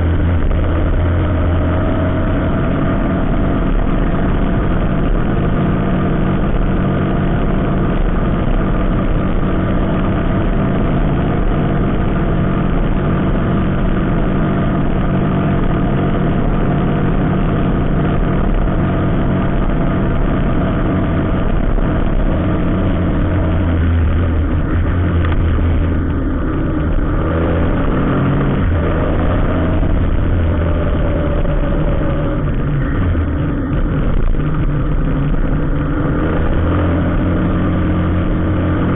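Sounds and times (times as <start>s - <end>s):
low hum: 0.0s - 38.9s
vehicle engine running: 0.0s - 38.9s.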